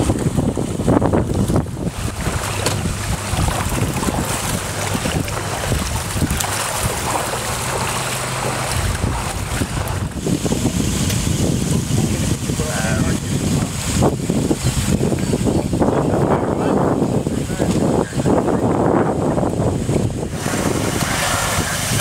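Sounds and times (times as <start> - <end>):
vehicle engine humming: 0.0 - 22.0
wind buffeting microphone: 0.0 - 22.0.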